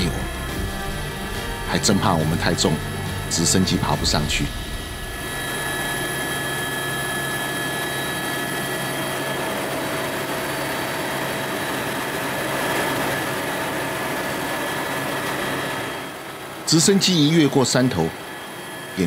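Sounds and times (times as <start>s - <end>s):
helicopter engine and rotor drone: 0.0s - 19.0s
turbine whine: 0.0s - 19.0s.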